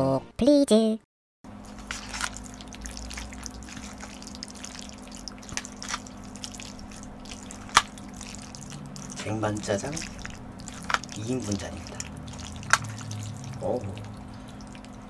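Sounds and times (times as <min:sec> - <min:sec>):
steady low hum: 0:01.5 - 0:15.0
slurping noodles: 0:01.6 - 0:15.0.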